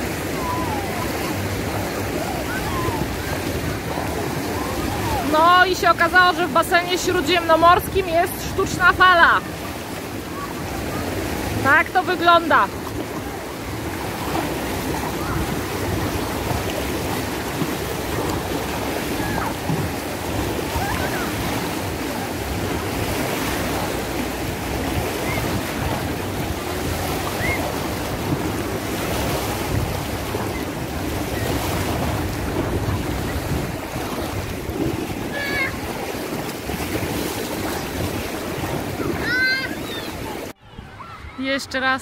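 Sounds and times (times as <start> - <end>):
churning pool water splashing: 0.0 - 42.0.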